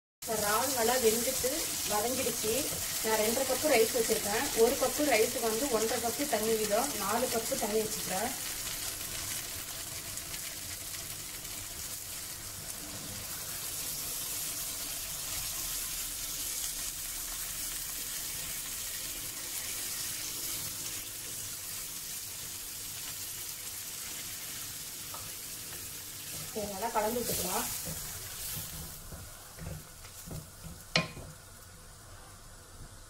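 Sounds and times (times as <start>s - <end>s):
water splashing and sizzling in pan: 0.2s - 33.0s.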